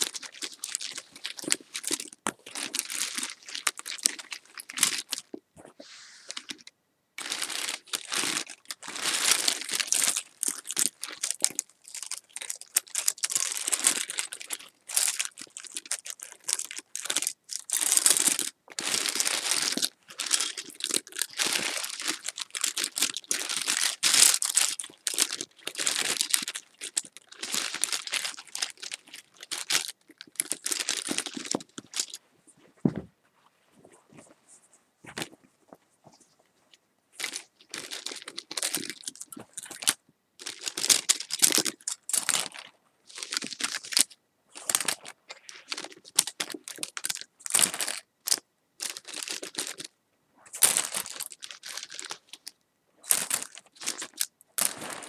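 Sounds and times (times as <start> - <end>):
crinkling and crumpling: 0.0 - 49.9, 50.5 - 55.0.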